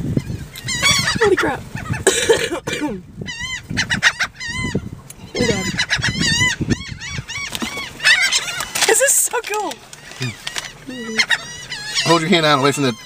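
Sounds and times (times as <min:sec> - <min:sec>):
seagulls calling: 0:00.0 - 0:13.0.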